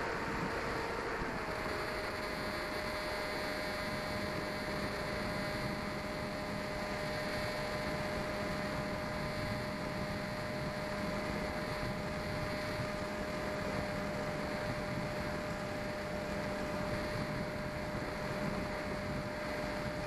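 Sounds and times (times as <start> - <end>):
electric motor whine: 0.0 - 20.0
wind rush: 0.0 - 20.0.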